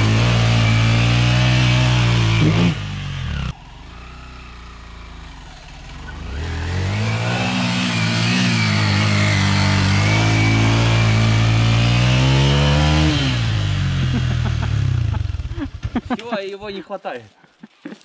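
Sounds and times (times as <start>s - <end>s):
dirt bike engine revving: 0.0s - 16.3s.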